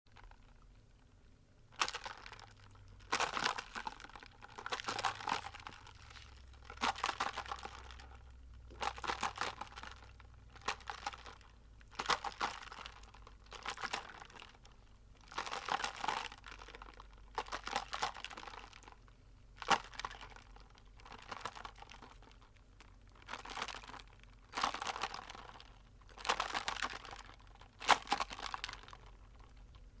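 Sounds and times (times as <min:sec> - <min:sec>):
soda cup crackling and rustling: 0:00.1 - 0:30.0.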